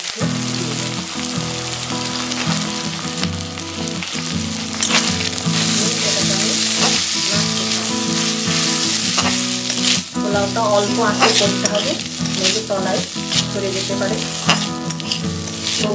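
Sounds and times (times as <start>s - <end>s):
rice sizzling in hot fat: 0.0s - 15.9s
spatula stirring in pan: 0.0s - 15.9s.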